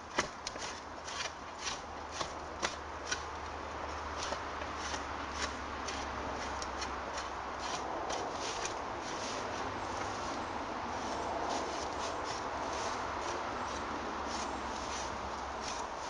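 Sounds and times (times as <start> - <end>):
draw knife scraping bark: 0.1 - 3.3, 3.9 - 10.4, 11.0 - 16.0.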